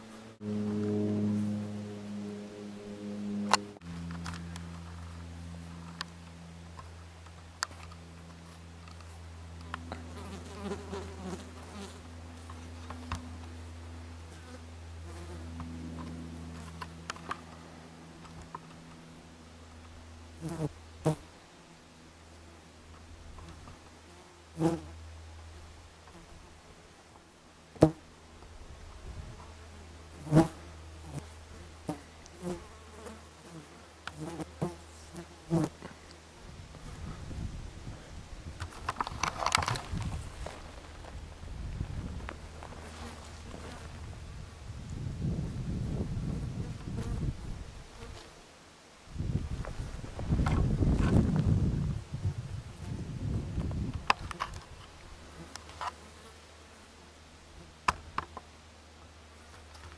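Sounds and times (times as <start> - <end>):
flying insects buzzing: 0.0 - 58.5
low steady hum: 0.0 - 59.9.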